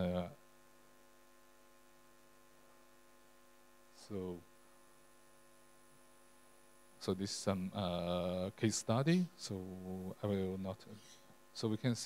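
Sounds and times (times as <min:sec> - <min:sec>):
mains hum: 0:00.0 - 0:12.0.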